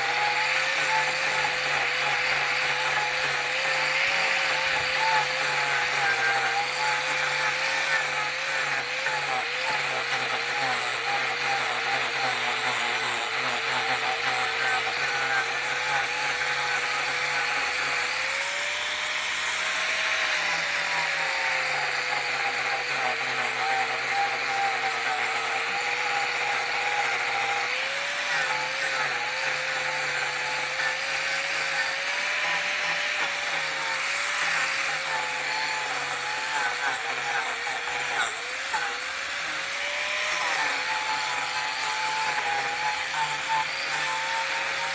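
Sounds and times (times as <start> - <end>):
angle grinder grinding wood: 0.0 - 44.9.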